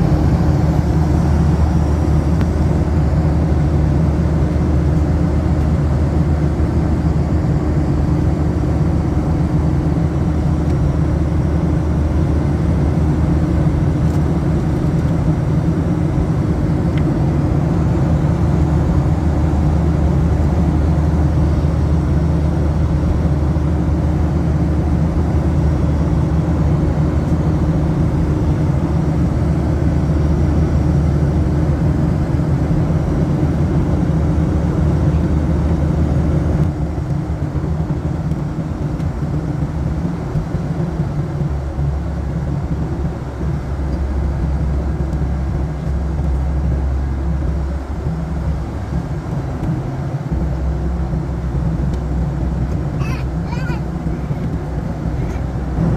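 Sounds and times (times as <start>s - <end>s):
airplane engines humming: 0.0s - 55.9s.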